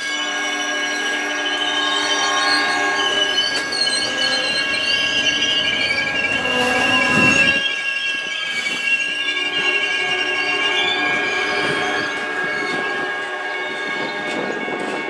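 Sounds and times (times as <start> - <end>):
train wheels squealing: 0.0 - 15.0
train cars rumbling past: 0.1 - 15.0.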